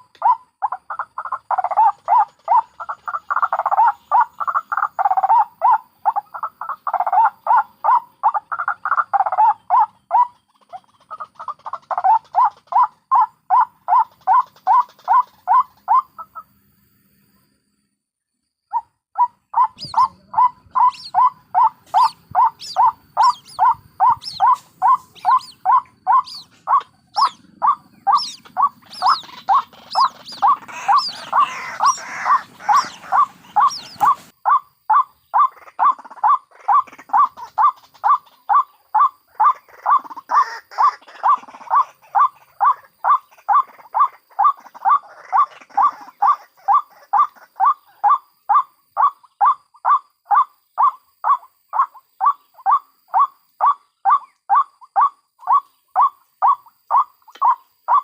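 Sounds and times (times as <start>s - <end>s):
bird calling harsh repeated notes: 0.0s - 16.5s, 18.6s - 58.0s
higher bird calls: 0.0s - 16.5s, 18.7s - 58.0s
background hiss: 0.0s - 58.0s.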